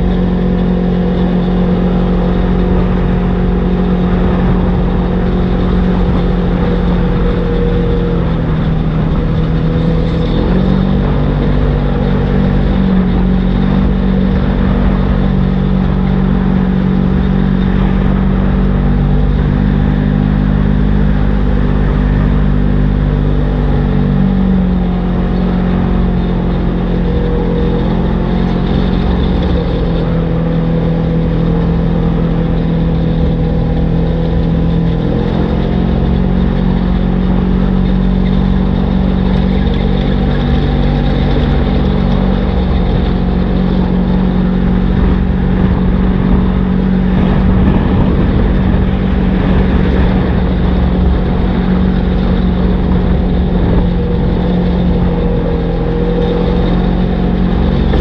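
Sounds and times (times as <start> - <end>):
road and wind noise: 0.0 - 58.0
vehicle engine droning: 0.0 - 58.0.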